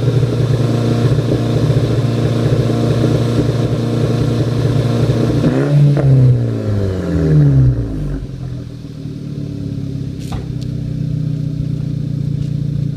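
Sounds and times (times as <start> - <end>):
car engine revving and misfiring: 0.0 - 12.9.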